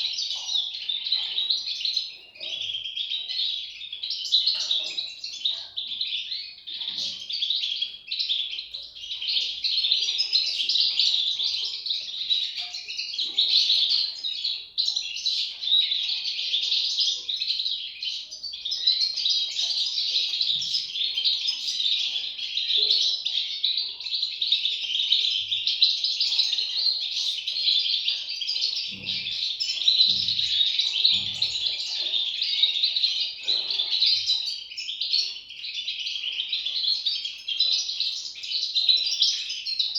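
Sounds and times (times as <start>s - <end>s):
chicks chirping: 0.0s - 39.9s.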